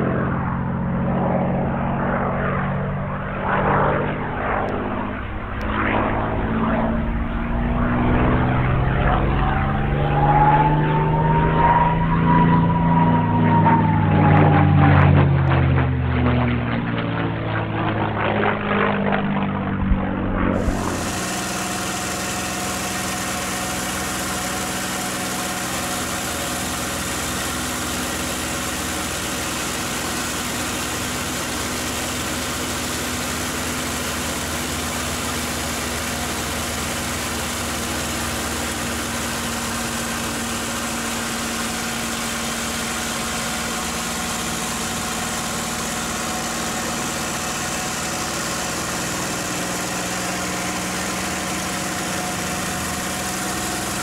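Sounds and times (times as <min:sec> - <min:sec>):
aircraft engine drone: 0:00.0 - 0:54.0.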